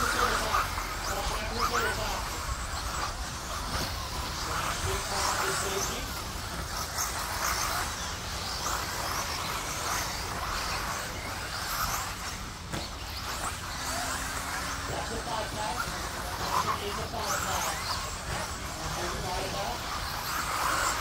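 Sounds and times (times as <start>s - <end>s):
rc car motors whining: 0.0s - 21.0s
tyres scrabbling on dirt: 0.0s - 21.0s.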